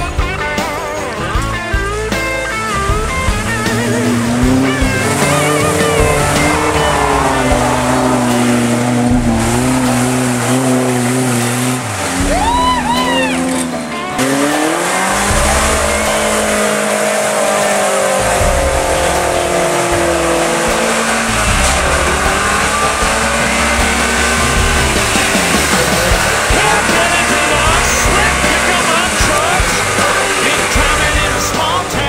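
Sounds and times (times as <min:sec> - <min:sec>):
engine revving: 0:00.0 - 0:32.0
water splashing around tires: 0:00.7 - 0:32.0.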